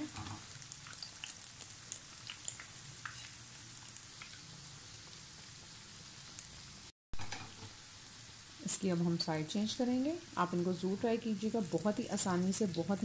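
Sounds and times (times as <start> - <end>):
hot oil sizzling with pops: 0.0 - 13.0.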